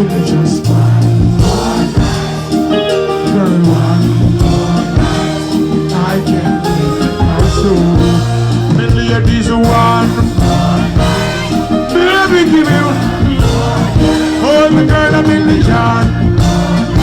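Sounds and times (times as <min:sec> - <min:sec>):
person singing: 0:00.0 - 0:17.0
reggae band: 0:00.0 - 0:17.0.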